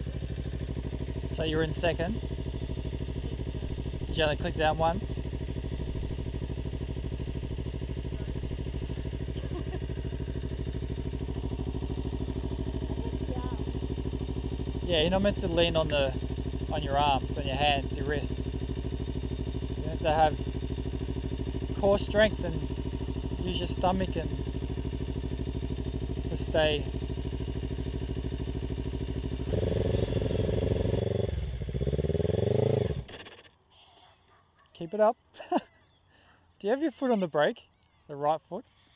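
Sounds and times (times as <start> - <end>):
motorcycle engine running: 0.0 - 33.6.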